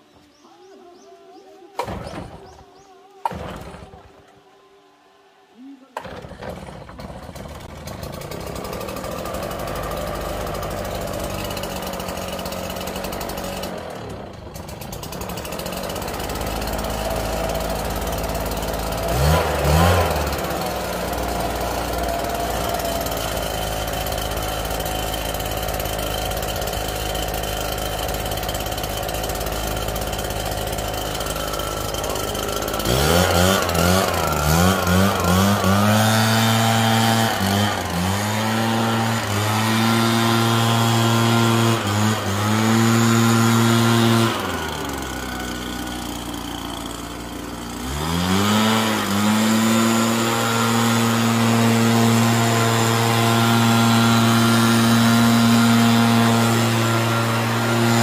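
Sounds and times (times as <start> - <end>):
leaf blower engine idling and revving: 0.0 - 4.4, 5.5 - 58.0.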